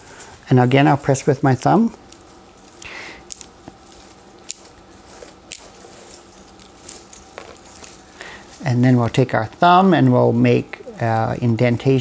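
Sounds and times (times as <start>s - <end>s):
flax stems rustling: 0.0s - 12.0s.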